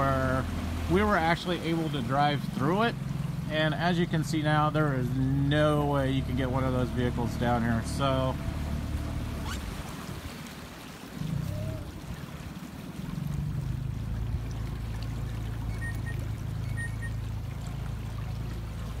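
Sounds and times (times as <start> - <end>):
water lapping against metal hull: 0.0 - 19.0.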